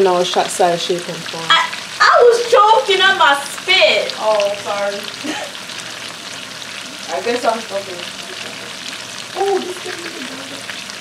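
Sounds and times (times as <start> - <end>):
cutlets sizzling in oil: 0.0 - 11.0.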